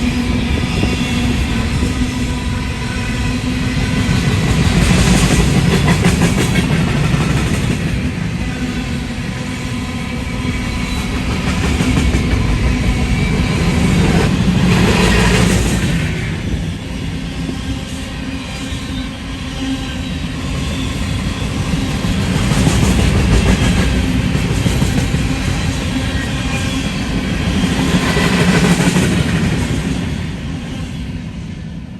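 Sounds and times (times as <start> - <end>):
freight train rumble: 0.0 - 31.9.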